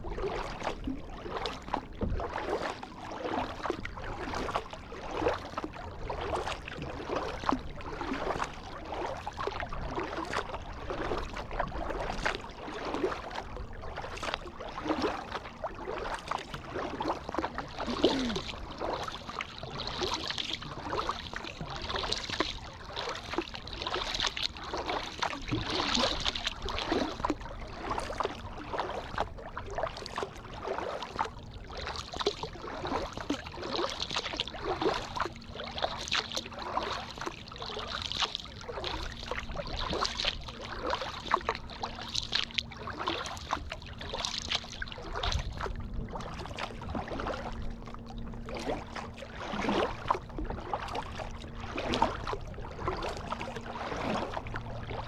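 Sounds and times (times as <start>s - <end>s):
paddle strokes in water: 0.0s - 55.0s
water splashing and dripping: 0.1s - 47.5s, 48.4s - 55.0s.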